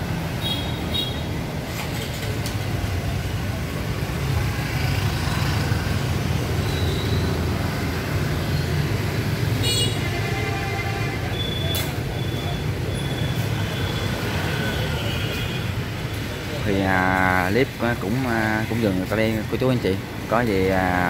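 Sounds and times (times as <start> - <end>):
motorbike engines rumbling: 0.0 - 21.0.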